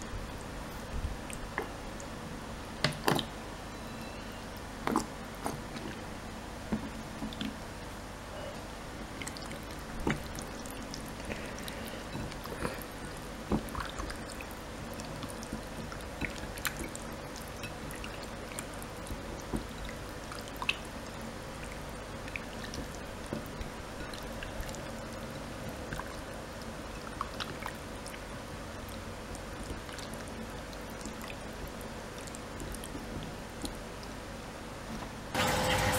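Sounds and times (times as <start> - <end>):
faint hum: 0.0 - 35.9.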